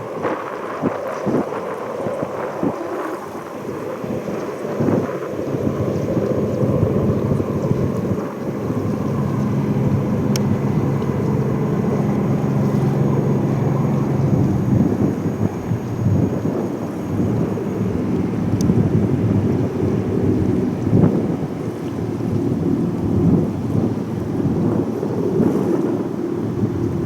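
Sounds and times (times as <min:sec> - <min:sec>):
jet engines rumbling: 0:00.0 - 0:27.0
wind buffeting microphone: 0:00.0 - 0:27.0.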